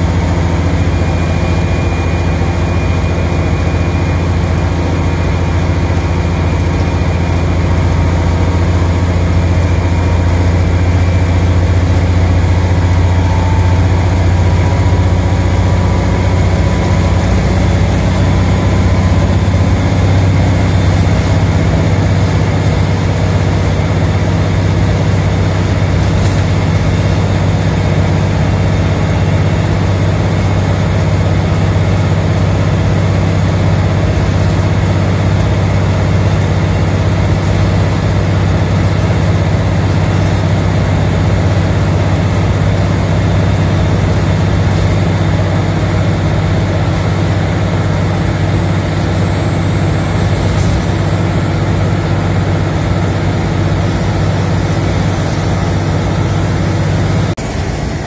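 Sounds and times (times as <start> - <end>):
bus diesel engine drone: 0.0 - 58.0
faint high whine: 0.0 - 58.0.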